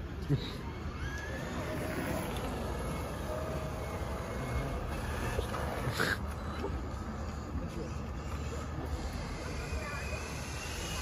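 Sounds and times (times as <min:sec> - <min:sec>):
outdoor noise: 0:00.0 - 0:11.0
tyres rumbling on asphalt: 0:00.0 - 0:11.0
electric motor whine: 0:00.1 - 0:05.9, 0:06.7 - 0:11.0.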